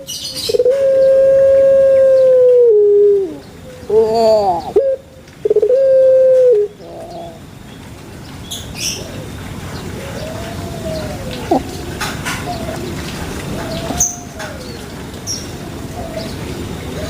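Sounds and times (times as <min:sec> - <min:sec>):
dove cooing: 0:00.0 - 0:07.4, 0:08.8 - 0:17.0.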